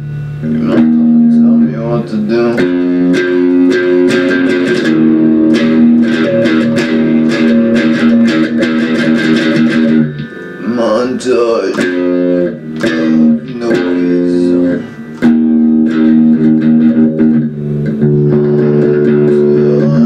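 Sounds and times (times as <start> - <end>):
electric guitar strumming chords: 0.0 - 20.0
guitar bending gliding notes: 0.0 - 20.0.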